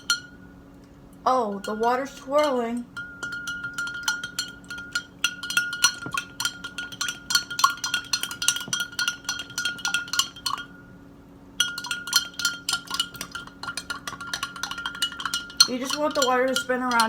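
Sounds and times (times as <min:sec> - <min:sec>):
spoon clinking in a glass: 0:00.0 - 0:00.4, 0:01.5 - 0:10.9, 0:11.6 - 0:17.0.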